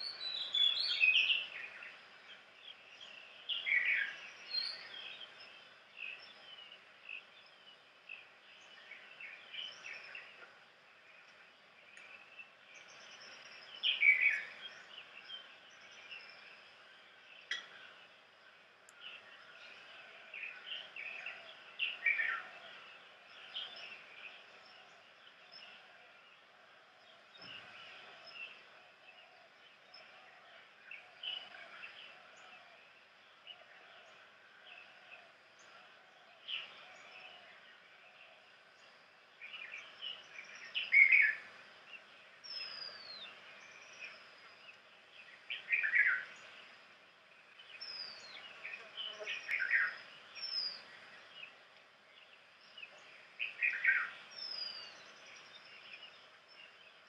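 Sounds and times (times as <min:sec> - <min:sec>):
birds chirping: 0:00.0 - 0:57.0
faint outdoor hiss: 0:00.0 - 0:57.0.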